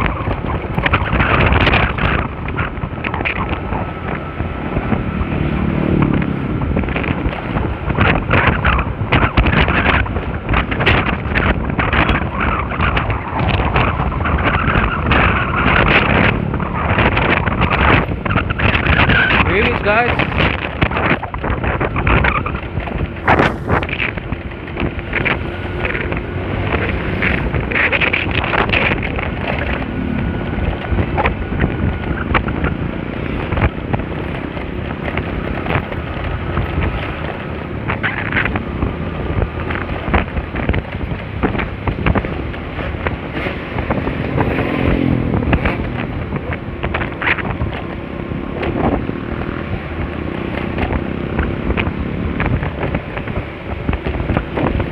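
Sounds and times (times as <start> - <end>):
road noise: 0.0 - 54.9
scooter engine: 0.0 - 54.9
wind buffeting microphone: 0.0 - 54.9.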